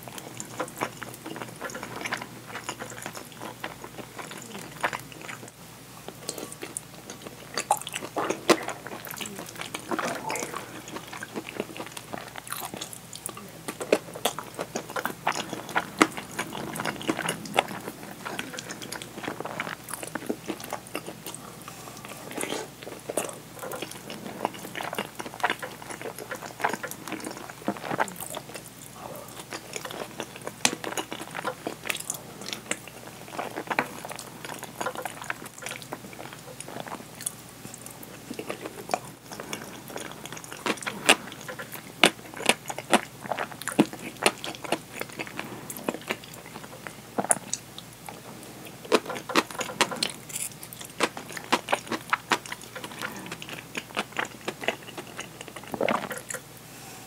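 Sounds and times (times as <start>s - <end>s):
close chewing and mouth clicks: 0.0s - 56.6s.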